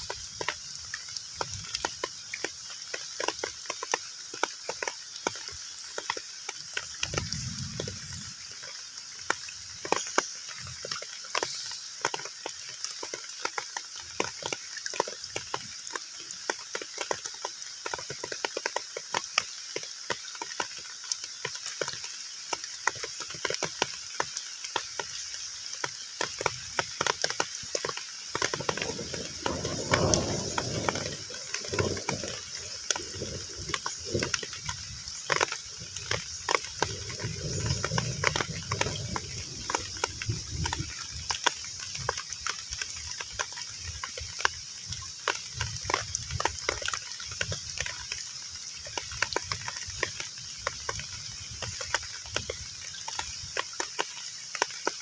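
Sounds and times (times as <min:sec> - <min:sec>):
heavy rain on water: 0:00.0 - 0:55.0.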